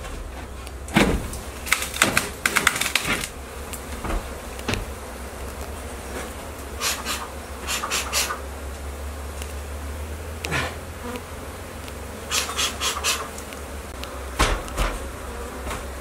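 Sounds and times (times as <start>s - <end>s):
bees buzzing: 0.0s - 16.0s
bees tapping against mask: 0.6s - 16.0s.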